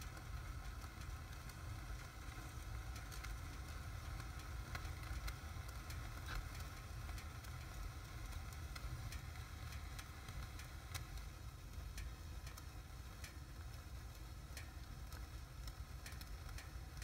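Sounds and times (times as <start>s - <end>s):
sharp crackles of fire: 0.0s - 17.0s.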